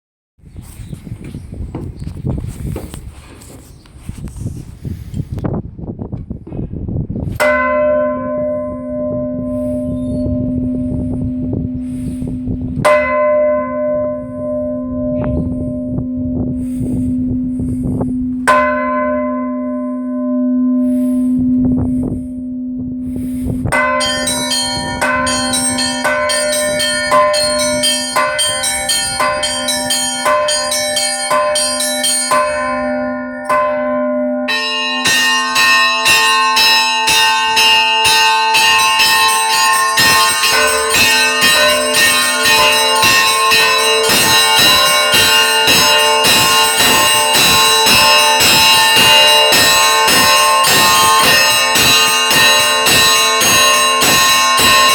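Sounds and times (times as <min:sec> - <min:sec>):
church bells ringing: 0:07.3 - 0:23.0, 0:23.7 - 0:54.9.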